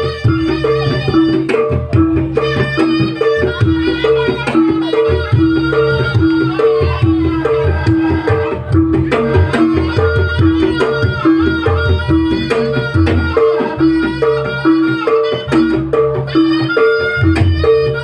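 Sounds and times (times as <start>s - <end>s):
hand drums beating: 0.0s - 18.0s
reedy wind melody: 0.0s - 18.0s
tuned percussion two-note pattern: 0.0s - 18.0s.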